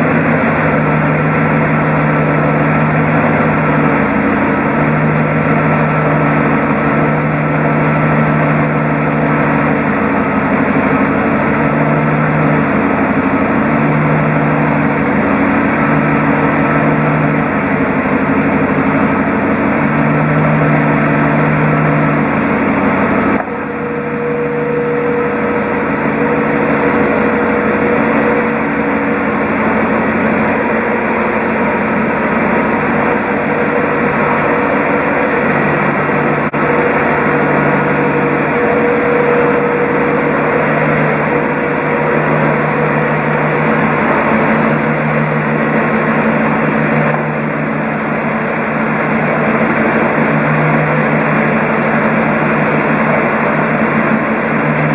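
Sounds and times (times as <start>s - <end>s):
car engine running steadily: 0.0s - 54.9s.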